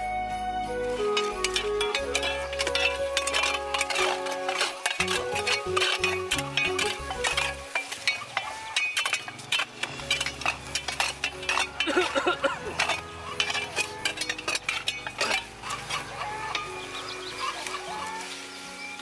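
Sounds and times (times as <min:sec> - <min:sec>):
faint background music: 0:00.0 - 0:19.0
hand hoes clinking on stones: 0:00.7 - 0:19.0.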